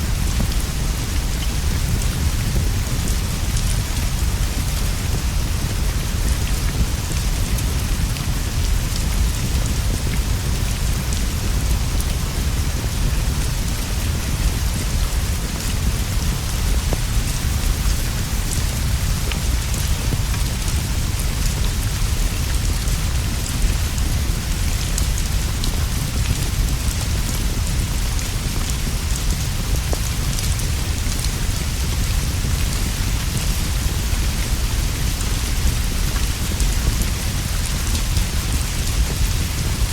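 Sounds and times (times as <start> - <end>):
rain on leaves and straw roof: 0.0 - 39.9.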